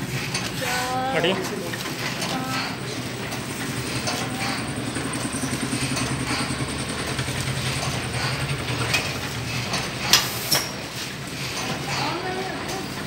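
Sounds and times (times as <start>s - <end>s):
machine humming with rapid pulses: 0.0s - 13.0s.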